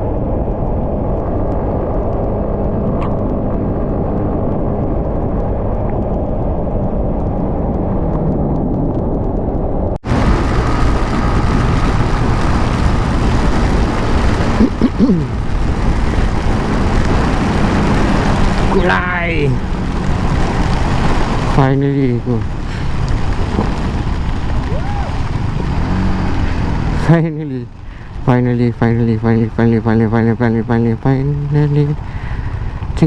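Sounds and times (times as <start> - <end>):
motorcycle engine drone: 0.0 - 33.0
wind rushing over microphone: 0.0 - 33.0.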